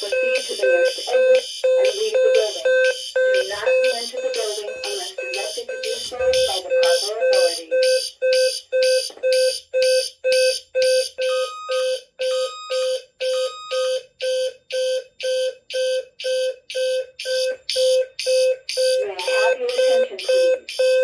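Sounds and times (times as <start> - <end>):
fire alarm beeping: 0.0 - 21.0.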